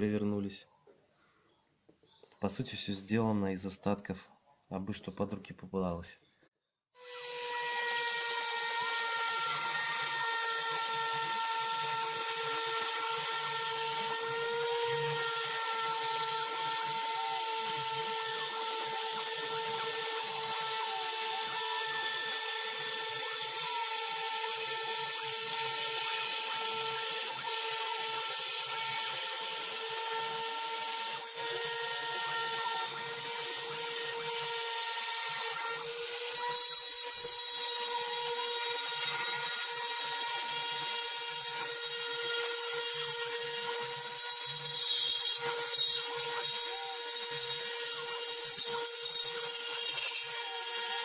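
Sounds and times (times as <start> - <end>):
end mill cutting wood: 7.0 - 51.0
rotary tool whine: 7.0 - 51.0.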